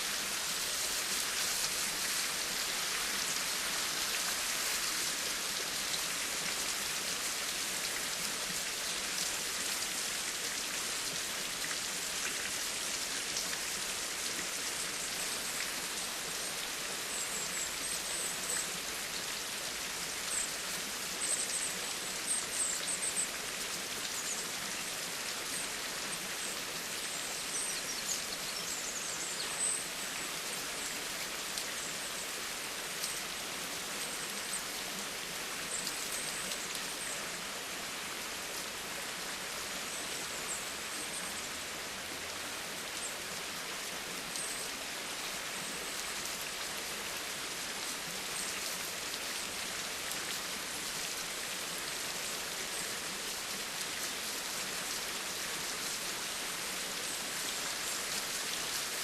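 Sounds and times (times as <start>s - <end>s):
rain pattering on surfaces: 0.0s - 59.0s.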